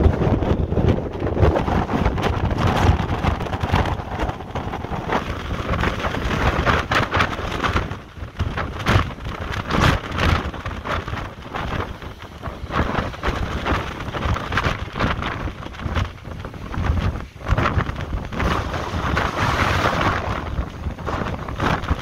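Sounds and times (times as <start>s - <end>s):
gusting wind: 0.0s - 22.0s
surf breaking over rocks: 0.0s - 22.0s.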